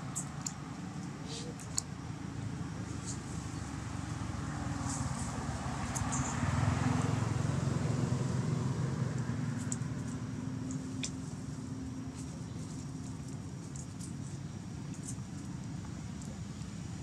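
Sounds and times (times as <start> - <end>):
passing vehicle engine hum: 0.0 - 17.0.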